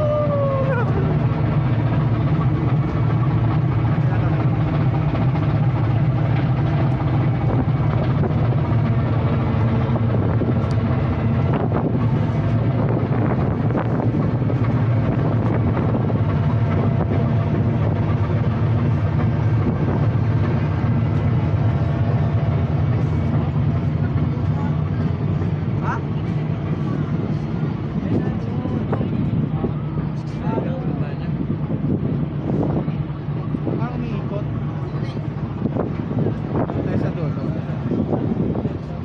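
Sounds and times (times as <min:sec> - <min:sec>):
ferry engines droning: 0:00.0 - 0:39.0
wind noise on microphone: 0:00.0 - 0:39.0.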